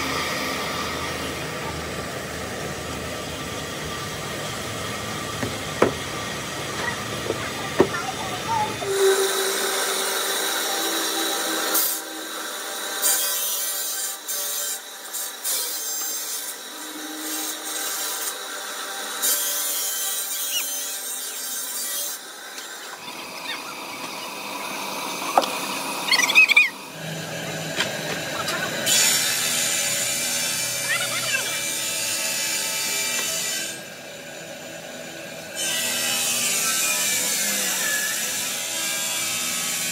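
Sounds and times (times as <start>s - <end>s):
saw cutting stone with water spray: 0.0s - 39.9s.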